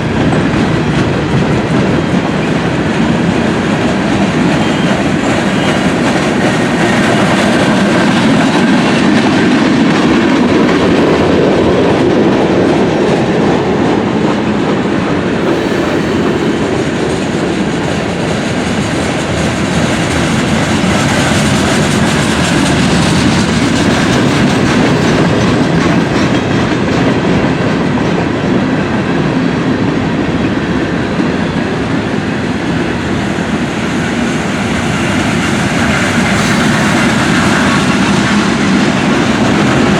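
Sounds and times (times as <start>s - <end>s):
wheels clacking over rail joints: 0.0s - 28.9s, 31.2s - 39.9s
railroad cars rolling past: 0.0s - 39.9s.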